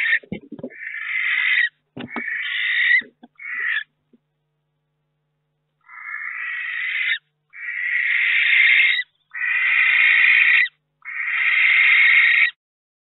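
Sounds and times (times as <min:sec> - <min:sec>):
barn owl hissing calls: 0:00.0 - 0:04.0, 0:05.8 - 0:12.6.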